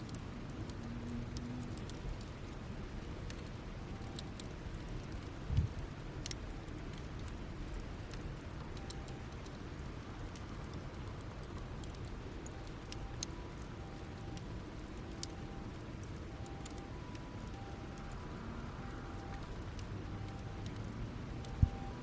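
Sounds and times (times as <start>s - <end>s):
wood crackling and popping: 0.0s - 22.0s
campfire hiss: 0.1s - 22.0s.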